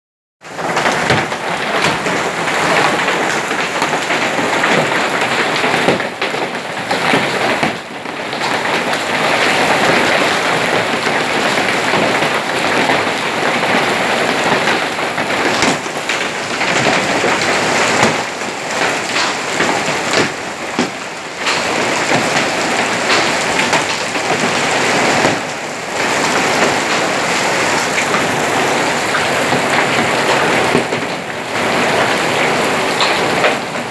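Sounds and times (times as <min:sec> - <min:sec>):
hail and heavy rain pelting: 0:00.4 - 0:33.9.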